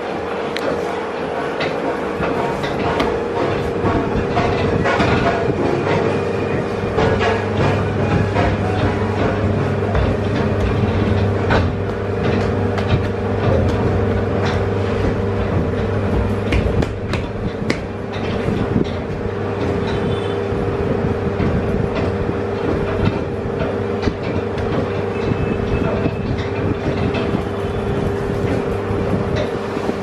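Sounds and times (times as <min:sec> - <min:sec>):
steady two-tone machine hum: 0:00.0 - 0:30.0.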